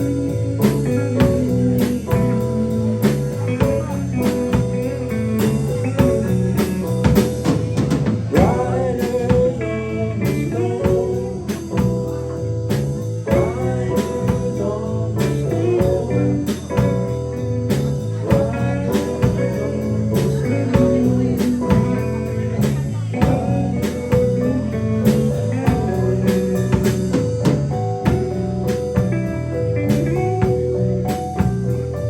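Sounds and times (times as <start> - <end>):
drum kit beat: 0.0 - 32.0
electric guitar: 0.0 - 32.0.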